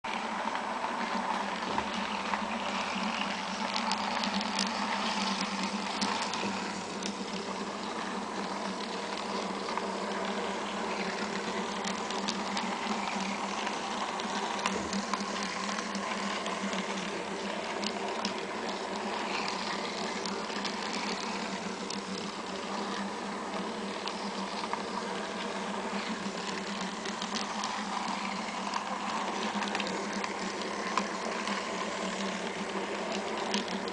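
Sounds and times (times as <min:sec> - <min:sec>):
model train motor whir: 0:00.1 - 0:33.9
wheels clicking on rails: 0:00.1 - 0:33.9.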